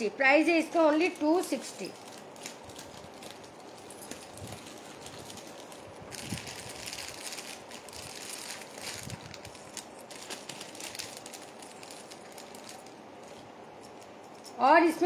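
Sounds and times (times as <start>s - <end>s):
packaging rustling and crinkling: 1.0s - 14.6s.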